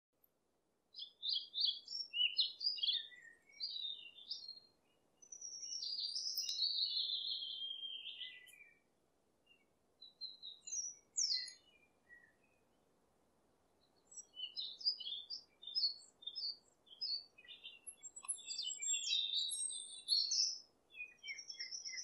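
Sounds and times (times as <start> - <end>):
faint steady background hiss: 0.2 - 22.0
songbird singing: 0.9 - 12.9, 13.7 - 22.0.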